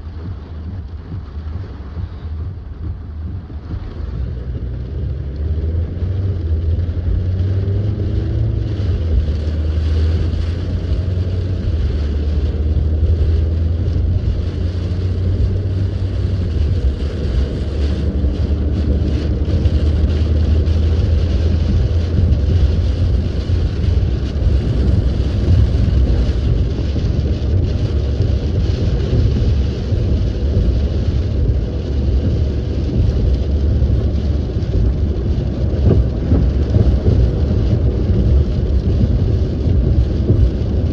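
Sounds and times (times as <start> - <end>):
car and road rumble: 0.0 - 40.9
rain hissing on car: 0.0 - 40.9.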